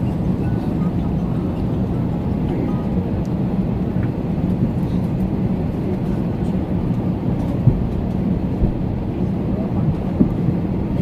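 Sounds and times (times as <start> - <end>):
airliner low rumble: 0.0 - 11.0.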